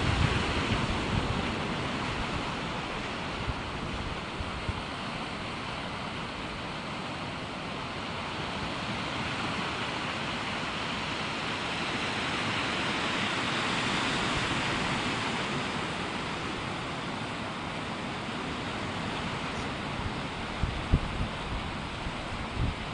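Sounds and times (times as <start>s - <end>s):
surf breaking on beach: 0.0s - 22.9s.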